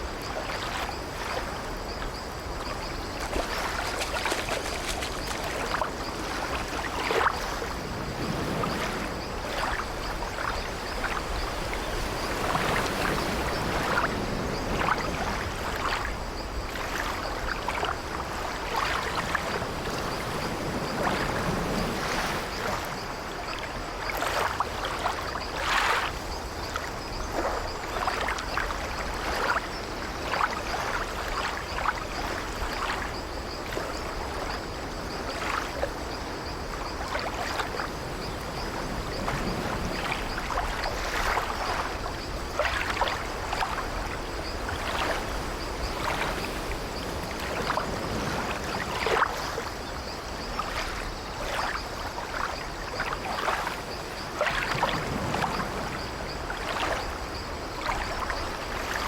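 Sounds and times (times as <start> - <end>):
sea waves washing against ship: 0.0 - 59.0.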